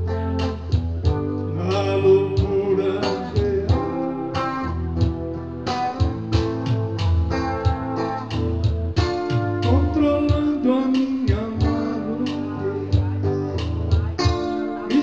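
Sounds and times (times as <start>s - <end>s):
bass line: 0.0s - 15.0s
electric-acoustic guitar playing: 0.0s - 15.0s
steady drum beat: 0.0s - 15.0s.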